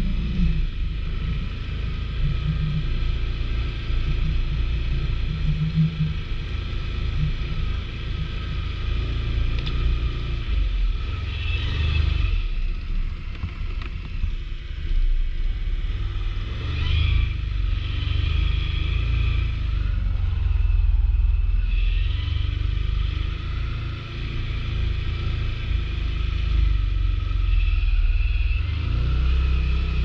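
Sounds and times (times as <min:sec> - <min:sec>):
atv engine rumbling: 0:00.0 - 0:30.0.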